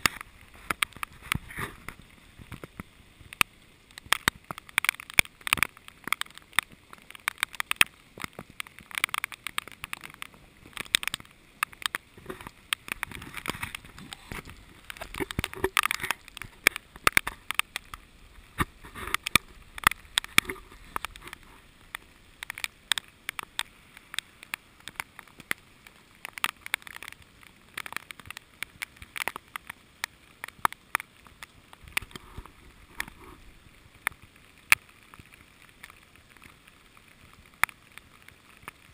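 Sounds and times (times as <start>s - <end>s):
rain falling on wet street: 0.0s - 38.9s
raindrops tapping on camera: 0.0s - 38.9s.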